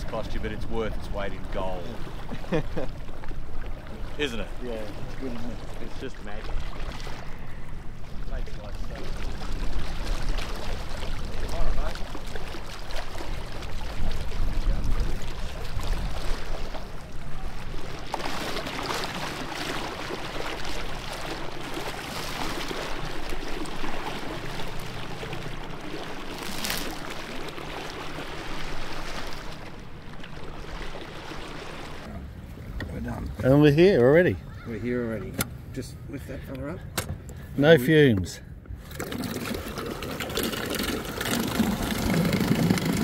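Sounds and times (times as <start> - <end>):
quiet electric outboard: 0.0 - 43.0
water rushing along a hull: 0.0 - 43.0.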